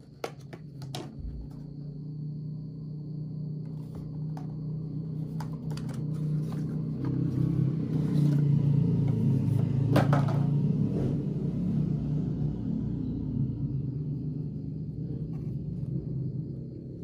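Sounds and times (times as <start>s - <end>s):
low drone: 1.6s - 17.0s.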